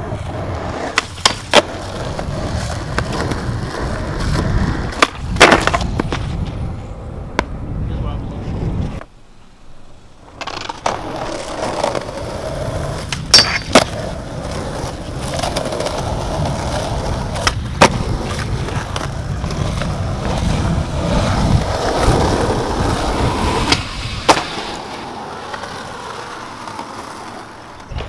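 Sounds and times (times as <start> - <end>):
skateboard clacks: 0.0 - 7.6, 10.2 - 28.0
skateboard wheels on rough concrete: 0.0 - 28.0.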